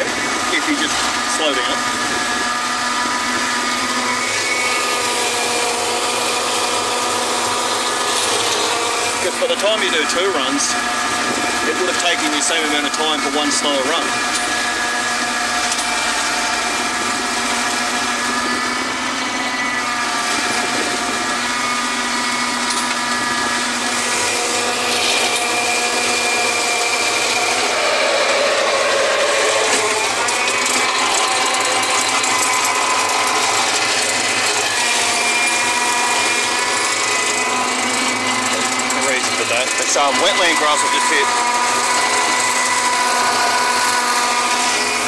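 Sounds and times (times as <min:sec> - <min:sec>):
flail mower cutting grass: 0:00.0 - 0:45.0
tractor engine under load: 0:00.0 - 0:45.0.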